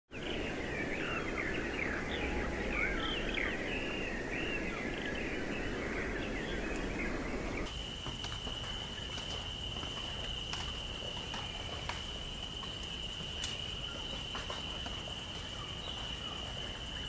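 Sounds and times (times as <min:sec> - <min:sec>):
birds singing: 0:00.1 - 0:17.0
low background noise: 0:00.2 - 0:17.0.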